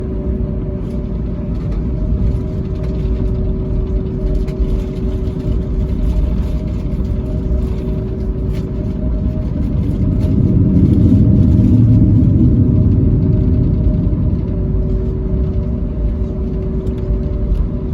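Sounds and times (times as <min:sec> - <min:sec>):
airplane cabin engine hum: 0:00.0 - 0:17.9
low rumble: 0:00.0 - 0:17.9.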